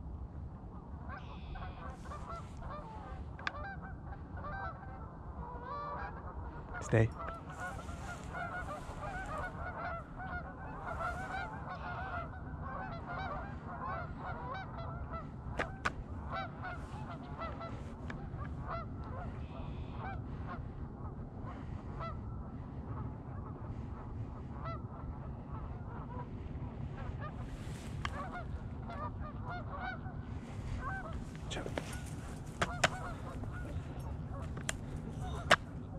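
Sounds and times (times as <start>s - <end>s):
geese honking: 1.0s - 26.4s, 27.0s - 35.9s.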